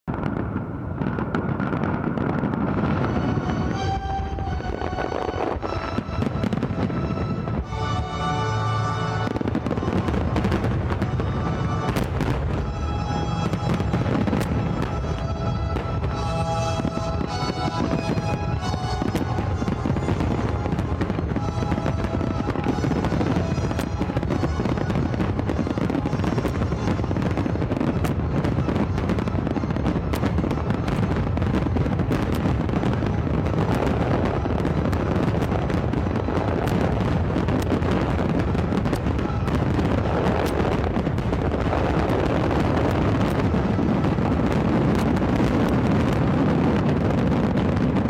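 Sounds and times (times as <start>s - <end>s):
fireworks bursts and crackle: 0.0s - 48.0s
music: 2.7s - 45.3s.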